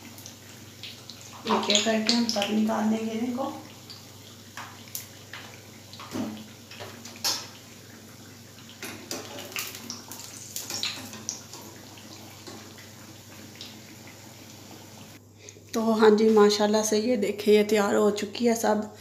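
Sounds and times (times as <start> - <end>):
hot oil sizzling: 0.0 - 16.6.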